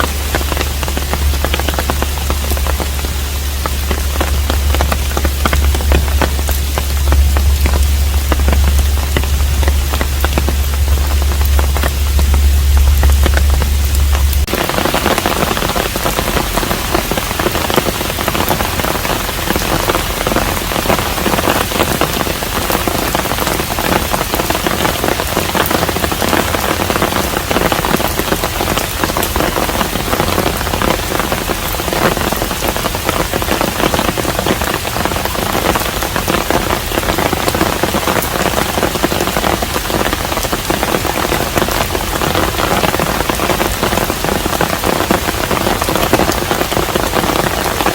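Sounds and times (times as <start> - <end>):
raindrop strikes: 0.0 - 47.9
steady rain falling: 0.0 - 47.9.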